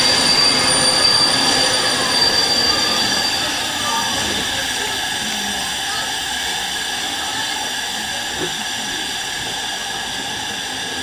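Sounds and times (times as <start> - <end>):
train hissing with high tones: 0.0 - 11.0.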